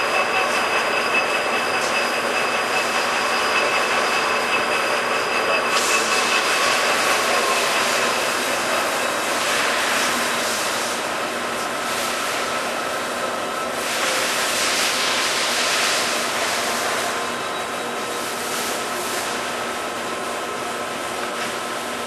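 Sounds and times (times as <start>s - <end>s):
lathe running with mechanical hiss: 0.0s - 22.0s.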